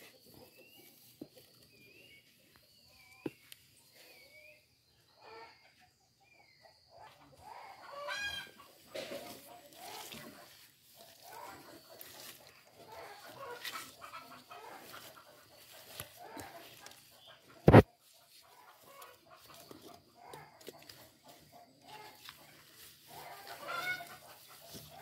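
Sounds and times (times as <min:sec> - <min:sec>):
rustling and scraping of soil: 0:00.0 - 0:04.5, 0:07.0 - 0:25.0
chickens clucking: 0:00.0 - 0:25.0.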